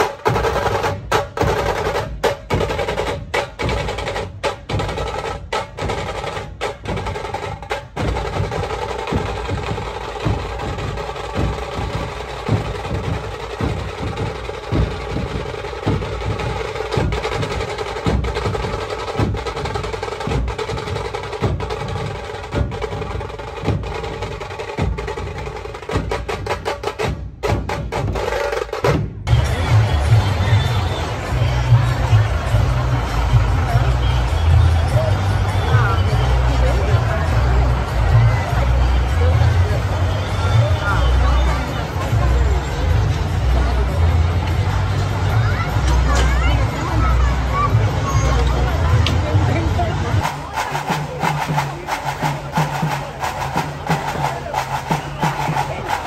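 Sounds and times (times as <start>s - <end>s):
barrel drums heavy rhythm: 0.0s - 56.0s
fast drum rolls: 0.0s - 56.0s.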